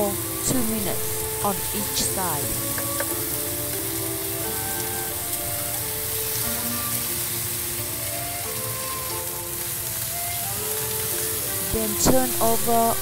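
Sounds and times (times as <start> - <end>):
background music: 0.0 - 13.0
steaks sizzling in grill pan: 0.0 - 13.0.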